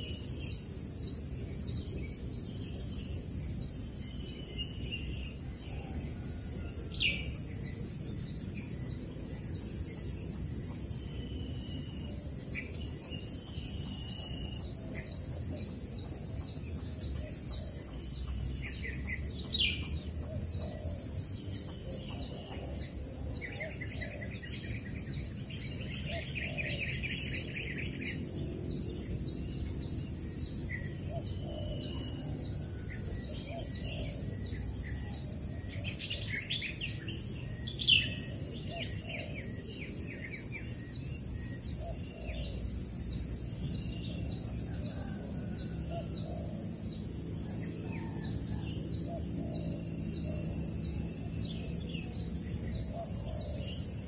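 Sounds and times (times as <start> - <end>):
birds chirping and trilling: 0.0 - 54.0
insects droning: 0.0 - 54.0.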